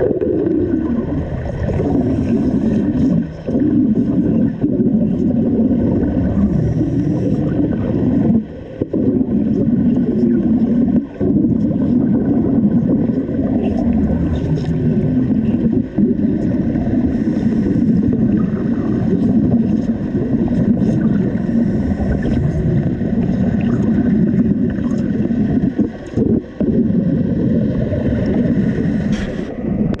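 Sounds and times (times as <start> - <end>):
muffled underwater bubbling roar: 0.0 - 30.0.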